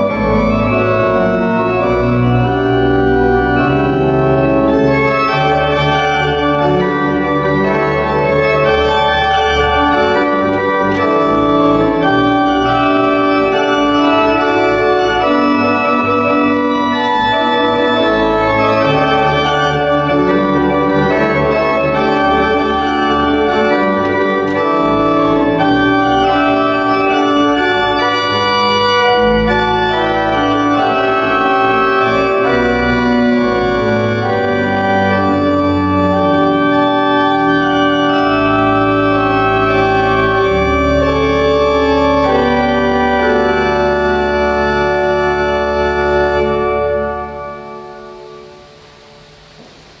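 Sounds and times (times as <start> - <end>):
church organ chords: 0.0 - 50.0.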